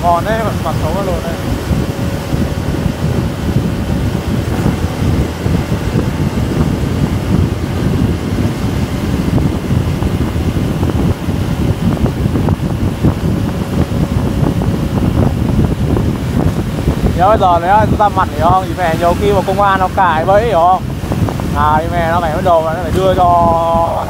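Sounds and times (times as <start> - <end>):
motorbike road and engine noise: 0.0 - 24.0
wind buffeting microphone: 0.0 - 24.0.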